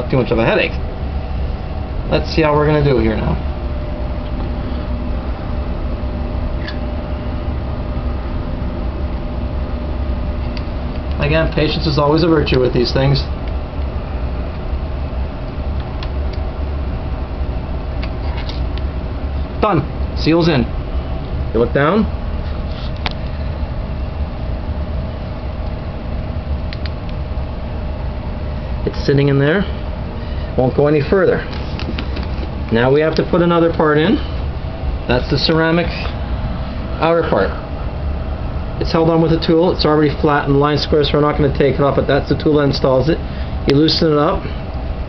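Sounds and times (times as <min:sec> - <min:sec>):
faint whine: 0:00.0 - 0:45.0
low mechanical hum and rumble: 0:00.0 - 0:45.0.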